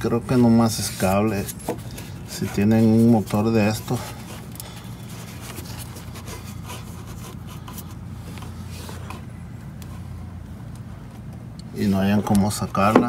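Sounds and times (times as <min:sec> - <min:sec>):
steady low hum: 0:00.0 - 0:13.0
hands rubbing plastic parts: 0:00.2 - 0:13.0.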